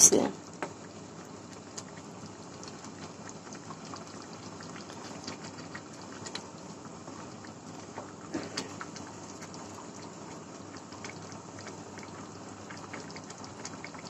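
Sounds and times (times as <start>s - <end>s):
stew simmering and bubbling: 0.0s - 14.0s.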